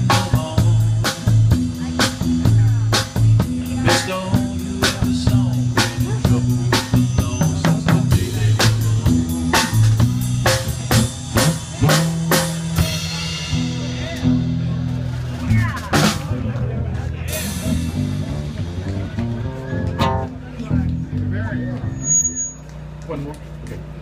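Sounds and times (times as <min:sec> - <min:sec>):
steady drum beat: 0:00.0 - 0:22.0
acoustic bass guitar low notes: 0:00.0 - 0:24.0.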